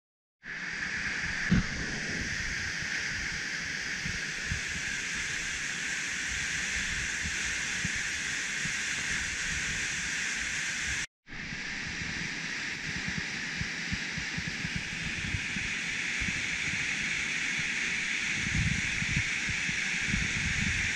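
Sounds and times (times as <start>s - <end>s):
waterfall hissing: 0.5s - 20.9s.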